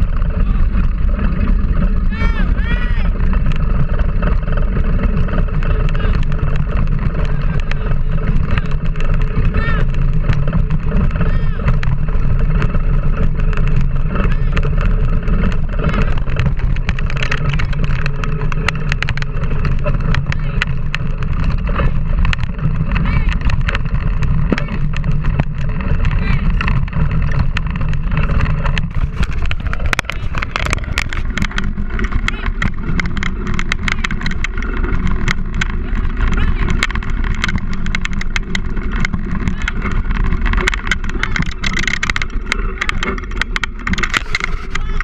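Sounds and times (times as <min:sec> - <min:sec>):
tyres rolling over dirt trail: 0:00.0 - 0:45.0
wind buffeting microphone: 0:00.0 - 0:45.0
rattling clicks: 0:03.1 - 0:45.0.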